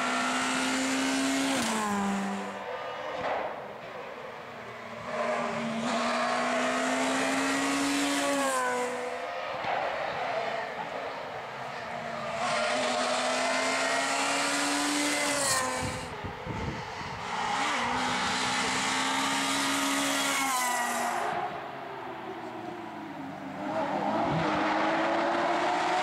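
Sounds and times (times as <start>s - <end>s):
rally car engine at high revs: 0.0s - 3.9s, 4.7s - 26.0s.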